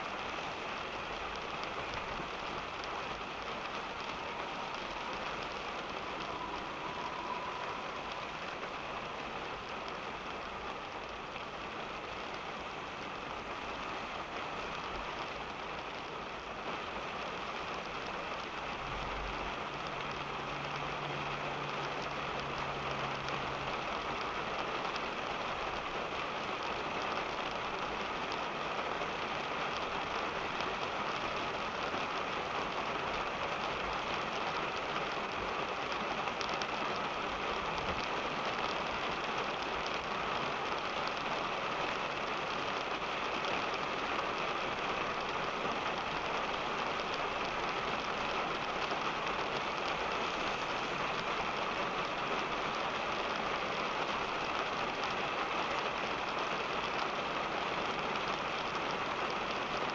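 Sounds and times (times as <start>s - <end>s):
rain pattering on a car: 0.0s - 59.9s.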